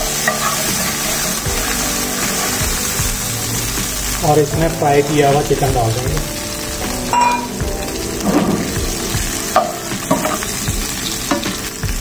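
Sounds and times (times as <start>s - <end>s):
steel ladle scraping pan: 0.0s - 4.2s, 6.3s - 11.8s
chicken sizzling in hot oil: 0.0s - 12.0s.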